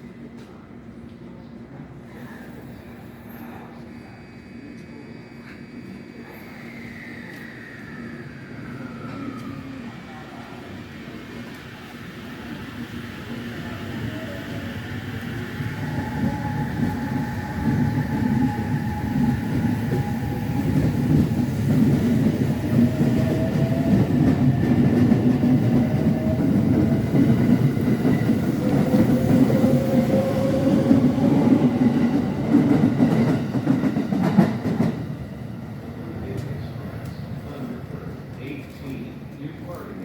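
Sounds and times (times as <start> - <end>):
train rumbling on rails: 2.6 - 39.8.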